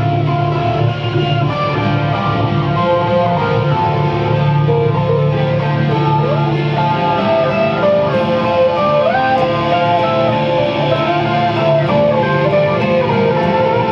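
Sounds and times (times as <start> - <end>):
acoustic guitar strumming: 0.0 - 13.9
electric guitar sliding notes: 0.0 - 13.9.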